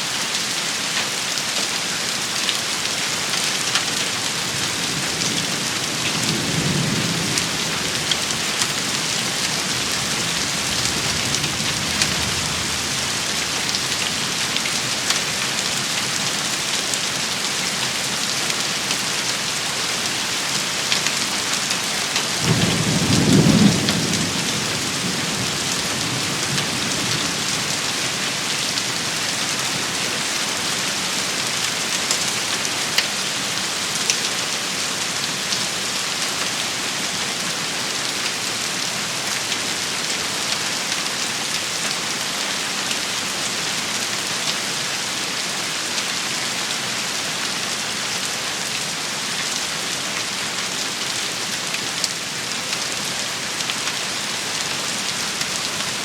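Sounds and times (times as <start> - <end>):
rain pattering: 0.3 - 56.0.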